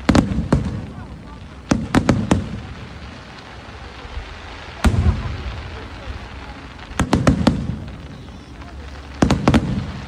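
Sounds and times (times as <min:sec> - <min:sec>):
fireworks bursting with rumbling echo: 0:00.0 - 0:10.0.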